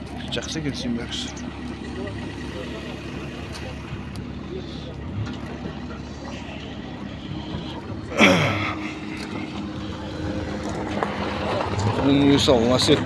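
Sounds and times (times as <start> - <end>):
low hum of vehicles: 0.0 - 13.0.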